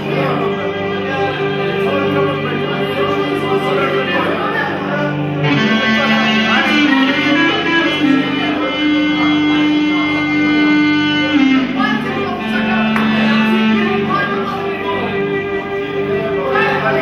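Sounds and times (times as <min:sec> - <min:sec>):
clarinet long notes: 0:00.0 - 0:17.0
keyboard accompaniment: 0:00.0 - 0:17.0
violin: 0:00.0 - 0:17.0.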